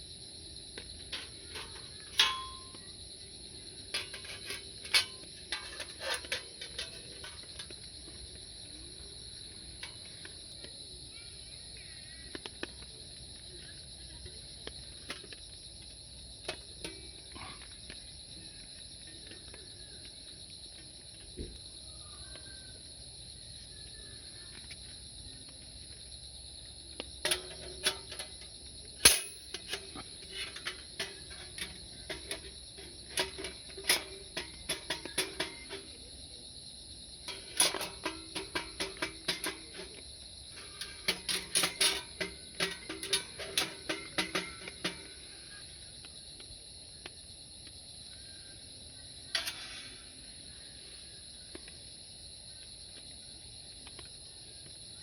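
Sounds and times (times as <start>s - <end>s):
insect chirring: 0.0s - 55.0s.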